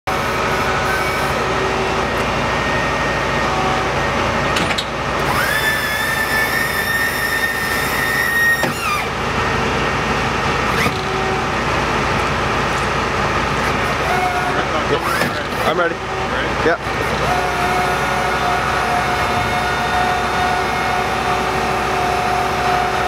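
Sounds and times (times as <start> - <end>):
heavy truck engine running: 0.0 - 23.0
hydraulic whine: 0.1 - 23.0.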